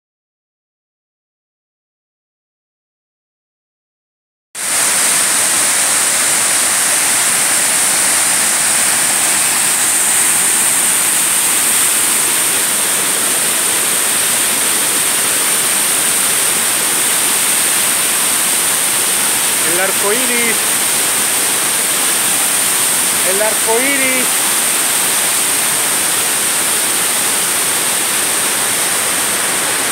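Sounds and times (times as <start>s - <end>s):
waterfall crashing into pool: 4.6s - 29.9s.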